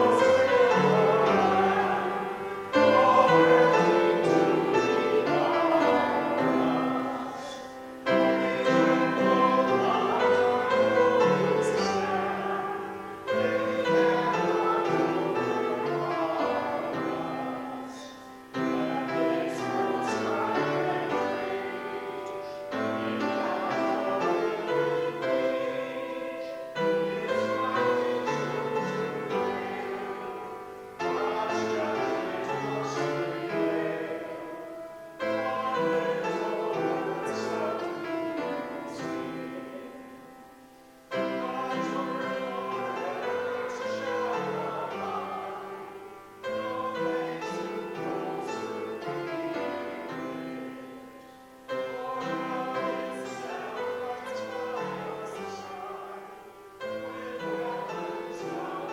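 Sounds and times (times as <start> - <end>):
hymn played on keyboard: 0.0 - 58.9
voices singing: 0.0 - 58.9.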